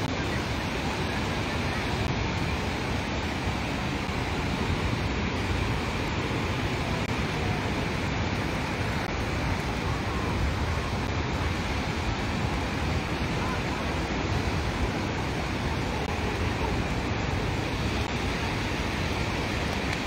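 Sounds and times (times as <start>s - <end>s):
ocean surf: 0.0s - 20.0s.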